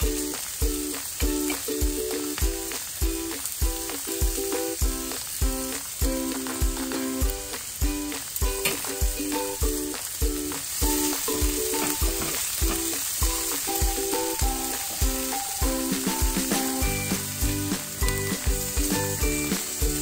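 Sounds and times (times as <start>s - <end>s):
background music with beat: 0.0s - 20.0s
mushrooms frying in pan: 0.0s - 20.0s
skewers sizzling on griddle: 0.0s - 20.0s.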